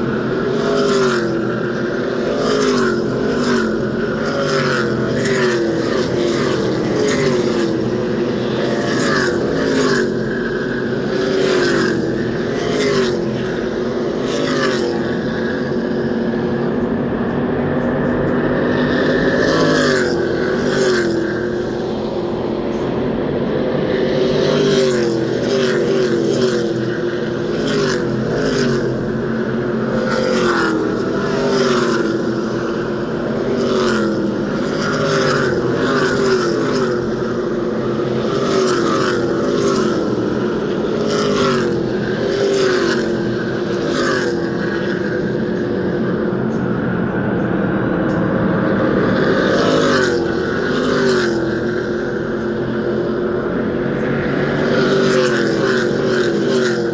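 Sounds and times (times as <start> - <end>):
race cars circling the track: 0.0 - 56.9
race cars passing by: 0.0 - 56.9.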